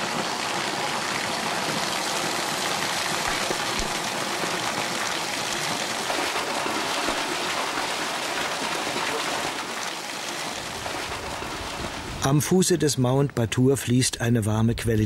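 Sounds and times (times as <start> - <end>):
water splashing into pool: 0.0 - 12.2.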